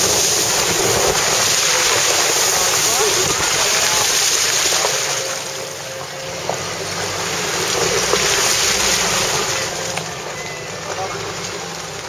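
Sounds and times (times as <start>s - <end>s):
low engine drone: 0.0s - 12.0s
tyres on wet gravel: 0.0s - 12.0s.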